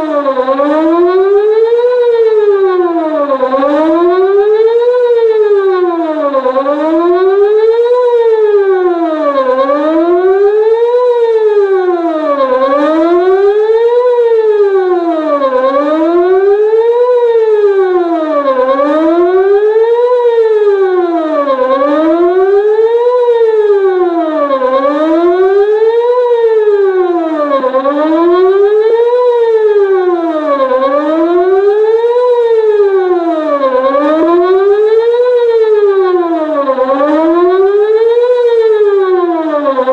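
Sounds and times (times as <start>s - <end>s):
outdoor warning siren wailing: 0.0s - 39.9s.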